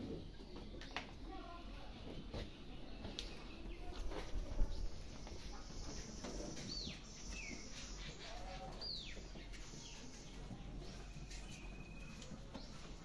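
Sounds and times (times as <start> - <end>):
soft bird chirps: 2.5 - 13.0.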